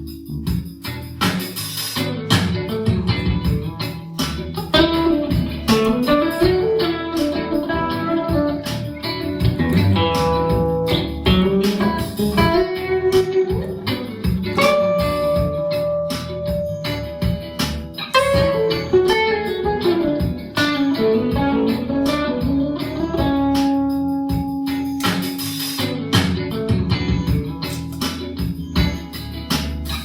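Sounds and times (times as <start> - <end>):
electric guitar lead with string bends: 0.0 - 30.0.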